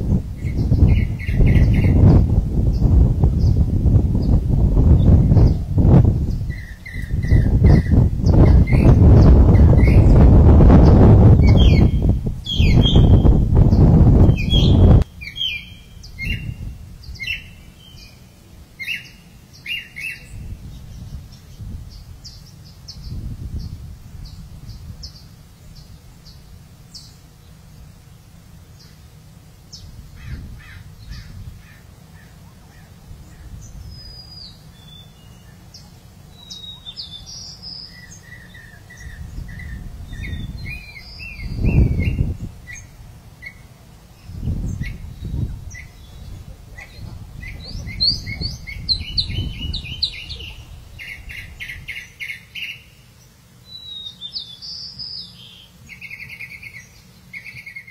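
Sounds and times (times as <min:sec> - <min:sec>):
birds chirping and calling: 0:00.1 - 0:57.9.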